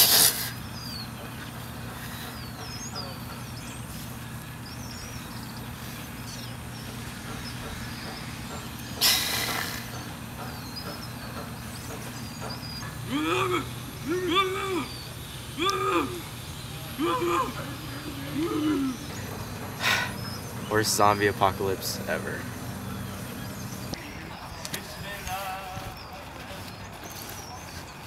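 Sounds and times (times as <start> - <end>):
outdoor background hum: 0.0 - 28.0
small birds chirping: 0.0 - 28.0.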